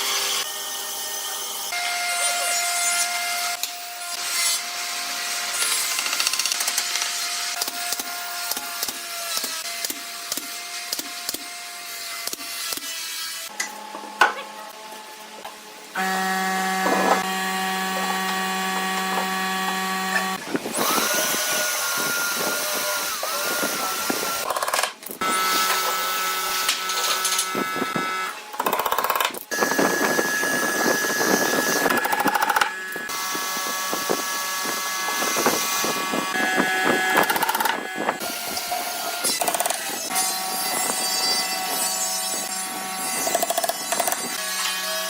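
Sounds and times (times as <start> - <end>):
woodworking power tools whining: 0.0 - 45.0.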